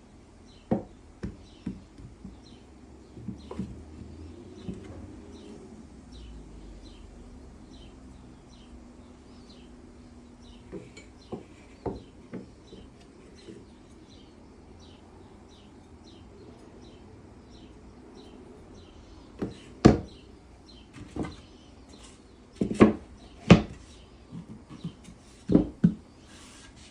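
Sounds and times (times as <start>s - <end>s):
bird chirping: 1.4s - 26.3s.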